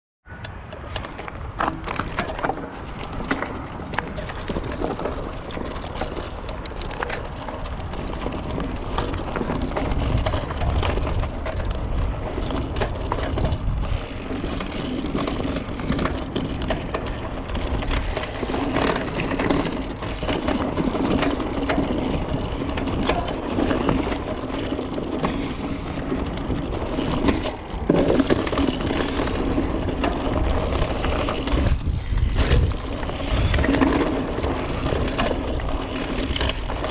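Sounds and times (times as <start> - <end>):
wind rumble on microphone: 0.3 - 36.9
bike clattering and rattling: 0.6 - 36.9
bike tyres crunching over stone: 0.8 - 36.9.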